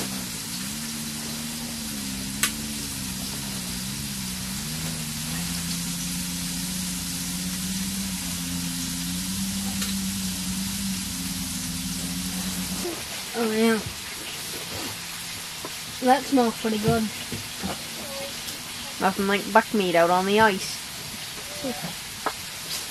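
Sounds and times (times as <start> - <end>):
low wavering drone: 0.0 - 20.6
gas heater hissing: 0.0 - 22.9.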